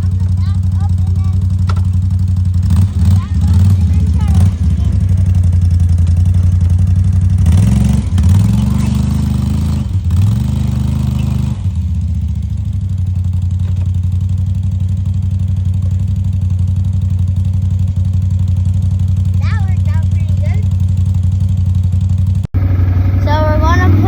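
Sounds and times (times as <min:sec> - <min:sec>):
atv engine revving and running: 0:00.0 - 0:24.0.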